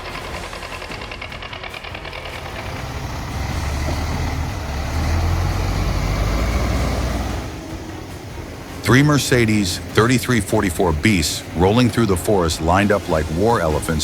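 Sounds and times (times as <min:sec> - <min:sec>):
deep engine rumble: 0:00.0 - 0:14.0
heavy vehicle engine clattering: 0:00.0 - 0:14.0.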